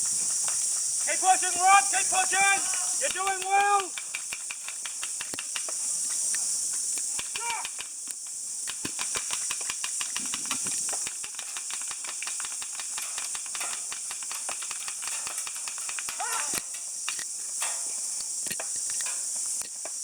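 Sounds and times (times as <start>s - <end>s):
buzzing insect chorus: 0.0s - 20.0s
sharp clicks and snaps: 2.7s - 19.8s.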